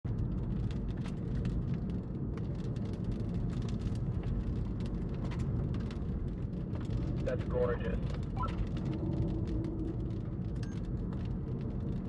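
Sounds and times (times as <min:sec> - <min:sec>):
car road and engine rumble: 0:00.1 - 0:12.0.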